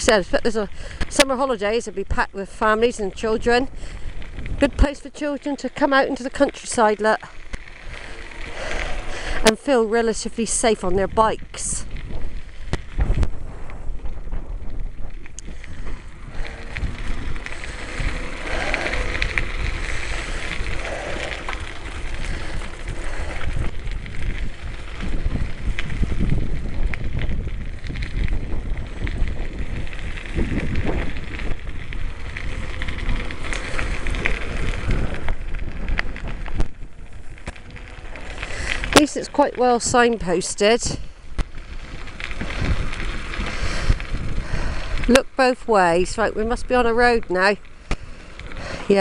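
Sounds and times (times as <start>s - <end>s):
bicycle tyre noise: 0.0s - 49.0s
bike clicks and rattles: 0.0s - 49.0s
wind buffeting microphone: 0.0s - 49.0s.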